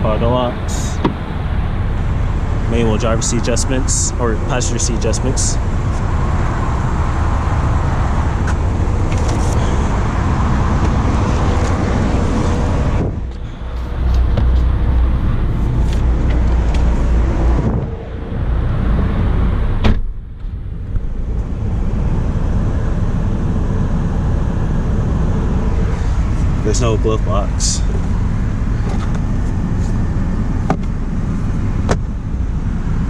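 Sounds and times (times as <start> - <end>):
car running noise: 0.0 - 33.0.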